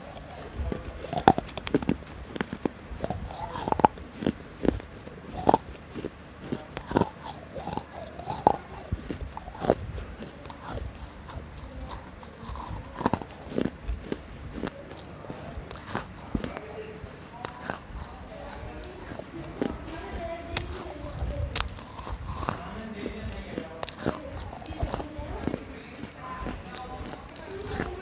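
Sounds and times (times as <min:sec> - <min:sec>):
close-miked biting and chewing: 0:00.0 - 0:28.0
wet clicks and crunches: 0:00.0 - 0:28.0.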